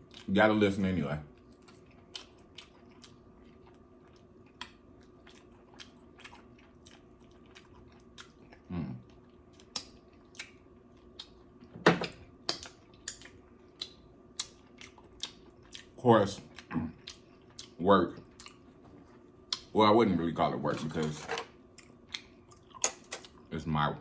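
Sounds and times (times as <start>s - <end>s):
person chewing food: 0.0s - 0.3s, 1.3s - 19.7s, 21.6s - 23.5s.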